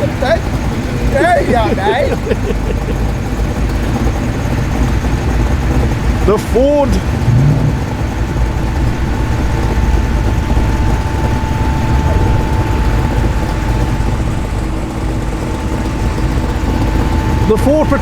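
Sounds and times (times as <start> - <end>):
car engine low rumble: 0.0 - 18.0
thin steady whine: 0.0 - 18.0.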